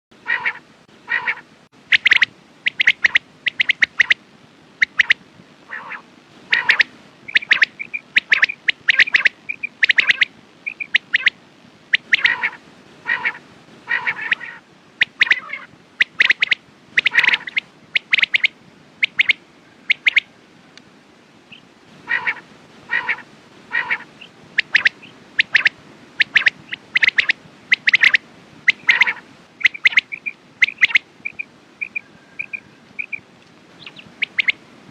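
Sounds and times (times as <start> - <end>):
quail calling: 0.2 - 4.2, 4.8 - 20.4, 21.5 - 34.6.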